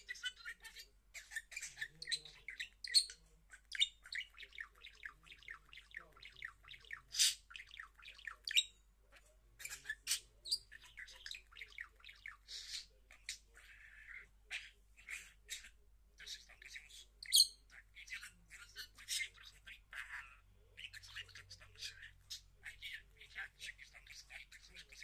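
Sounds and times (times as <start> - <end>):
budgerigar chattering: 0.0 - 8.8, 9.6 - 25.0.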